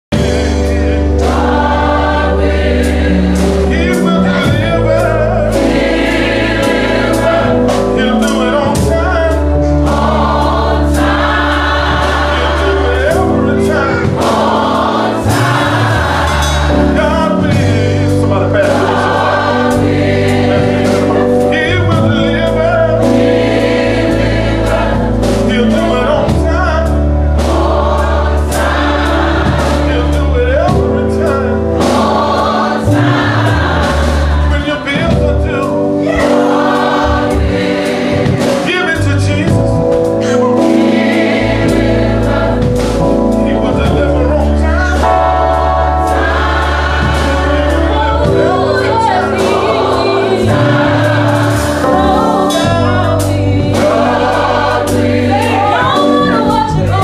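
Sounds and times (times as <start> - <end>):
gospel choir singing: 0.0 - 57.0
instrumental backing with bass: 0.0 - 57.0.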